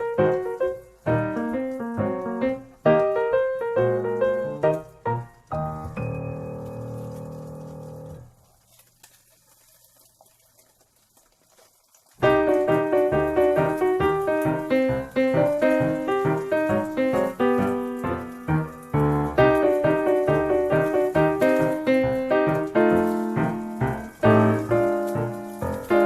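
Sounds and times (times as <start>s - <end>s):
solo piano music: 0.0s - 8.4s, 12.2s - 26.0s.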